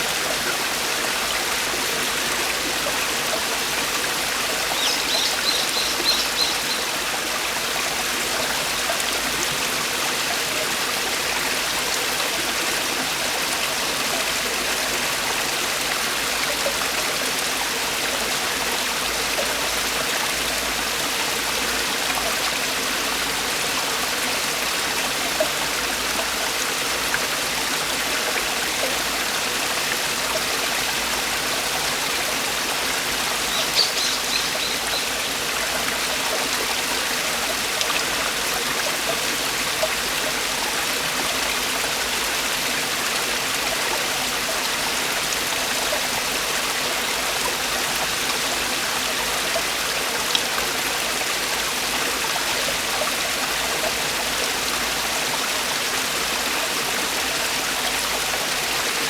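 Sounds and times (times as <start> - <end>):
stream water falling over rocks: 0.0 - 59.0.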